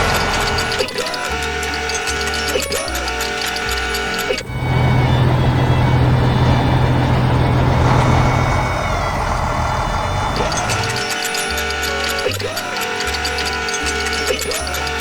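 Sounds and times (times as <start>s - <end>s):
background music: 0.0s - 15.0s
heavy truck engine hum: 0.0s - 15.0s.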